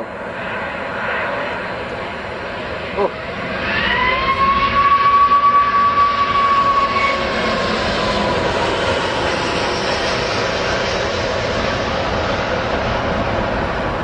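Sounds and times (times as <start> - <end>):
aircraft engine whine: 0.0 - 14.0.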